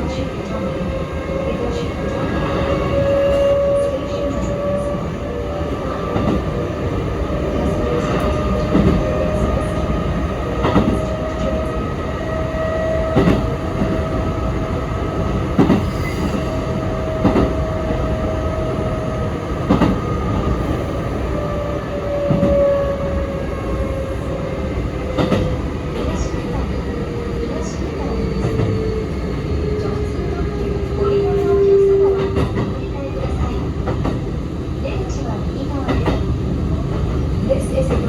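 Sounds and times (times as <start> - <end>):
train low rumble: 0.0 - 38.0.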